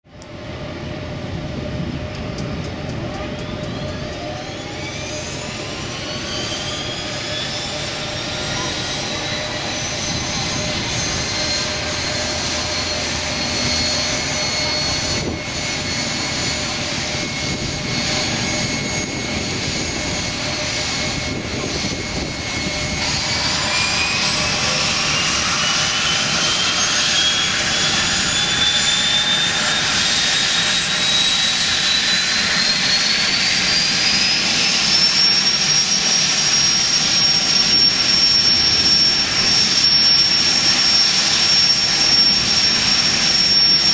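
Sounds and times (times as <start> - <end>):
turboprop engine turbine whine: 0.1 - 43.9.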